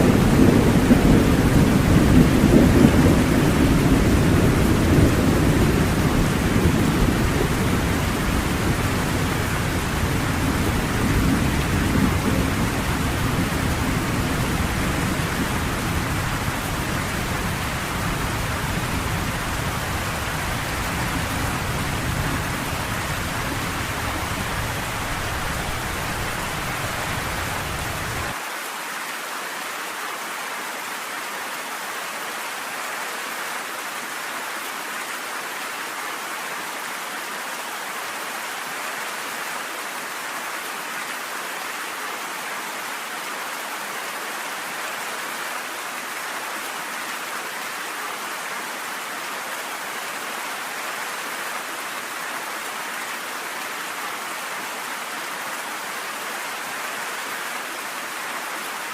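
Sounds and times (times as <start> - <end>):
steady rainfall: 0.0 - 58.9.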